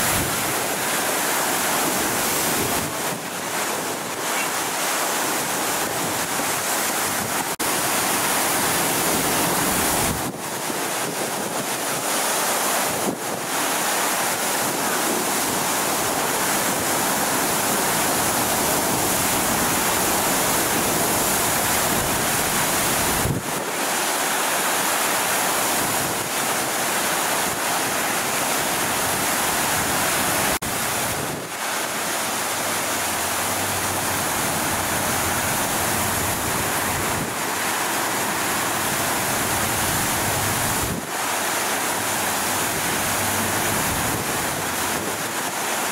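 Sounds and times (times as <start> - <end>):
water gushing under high pressure: 0.0 - 45.9.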